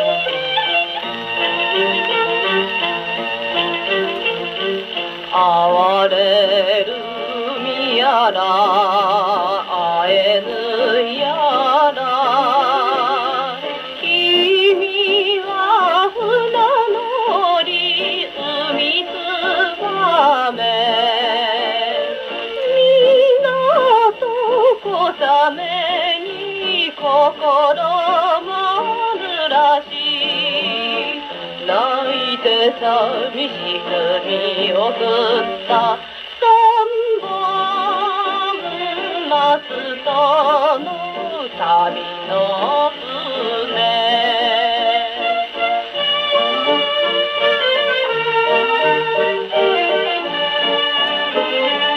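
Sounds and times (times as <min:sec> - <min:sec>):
popular song on gramophone record: 0:00.0 - 0:51.9.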